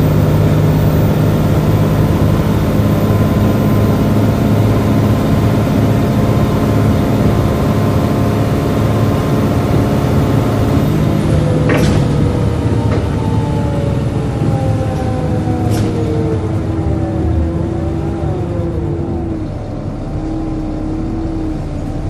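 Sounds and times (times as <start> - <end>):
bus engine running: 0.0 - 22.0
loud cooling fan: 0.0 - 22.0
whining tones falling in pitch: 0.0 - 22.0.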